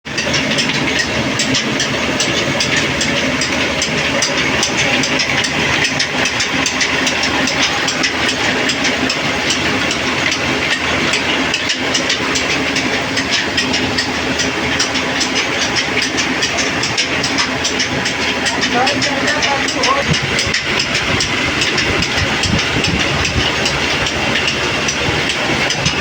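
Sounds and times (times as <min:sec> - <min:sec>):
dense crackle of fine clicks: 0:00.1 - 0:26.0
machinery low hum: 0:00.1 - 0:26.0.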